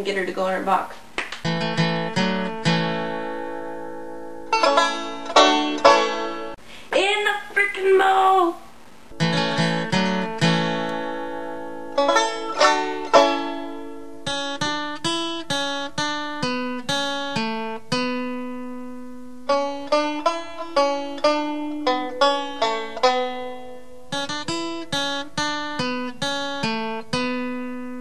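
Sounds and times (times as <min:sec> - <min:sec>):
plucked string instrument: 0:01.4 - 0:06.6, 0:09.2 - 0:28.0.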